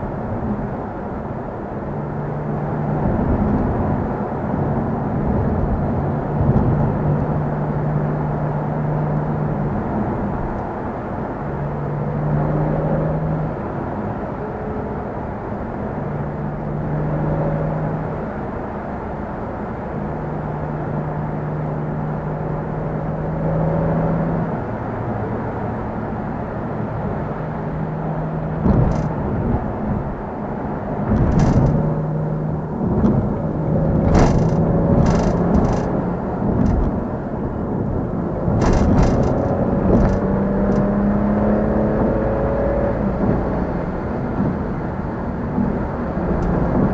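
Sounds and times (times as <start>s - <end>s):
car engine drone: 0.0s - 46.9s
road noise: 0.0s - 46.9s.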